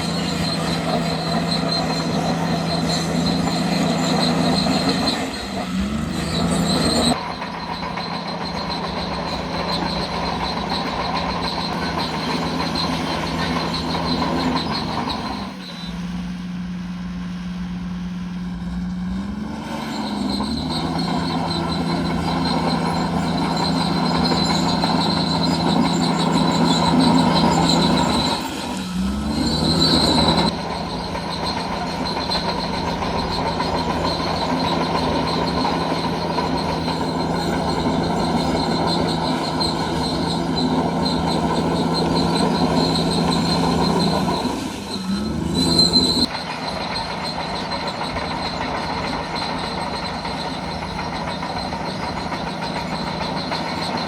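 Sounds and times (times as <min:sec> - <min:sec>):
bulldozer diesel engine: 0:00.0 - 0:54.0
high-pitched metallic squeal: 0:00.0 - 0:54.0.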